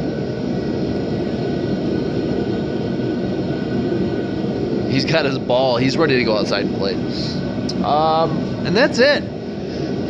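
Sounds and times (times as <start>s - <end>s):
faint high hum: 0.0s - 10.0s
heater blowing: 0.0s - 10.0s.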